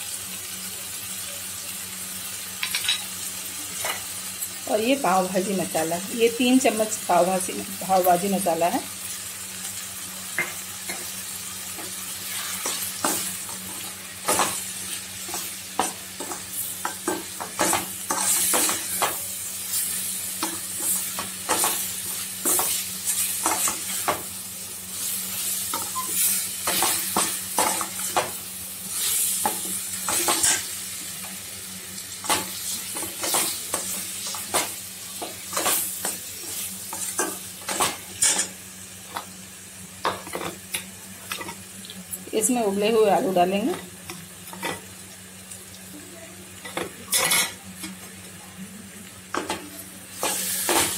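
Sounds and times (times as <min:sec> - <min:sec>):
light sizzle: 0:00.0 - 0:50.9.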